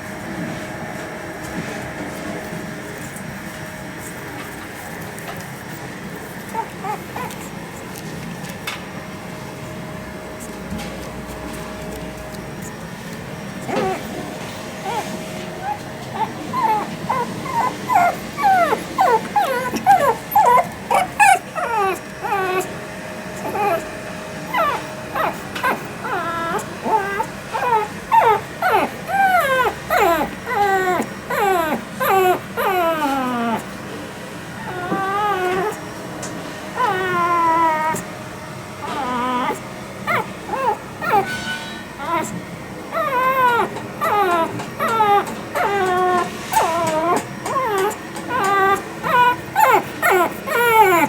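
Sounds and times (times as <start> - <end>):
puppy whining: 1.2 - 9.0, 10.0 - 51.0.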